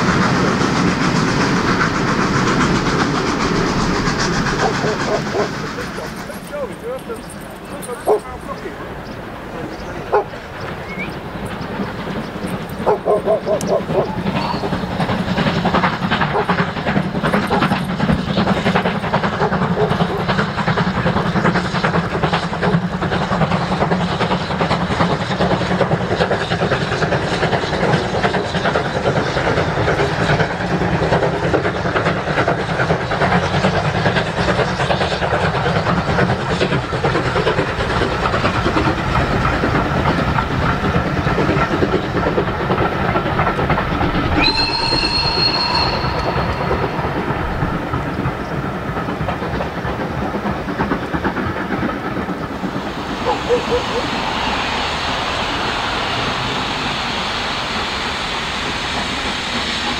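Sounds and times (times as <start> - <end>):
hissing steam: 0.0 - 59.9
steam locomotive exhaust chatter: 0.0 - 59.9
train coaches rattling on rails: 0.0 - 59.9.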